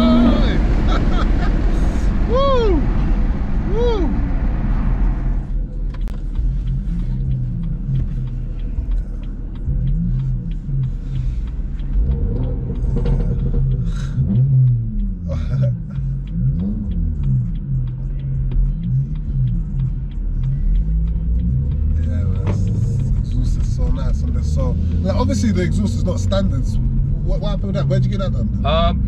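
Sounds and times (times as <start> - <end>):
car exhaust drone revving: 0.0 - 29.0.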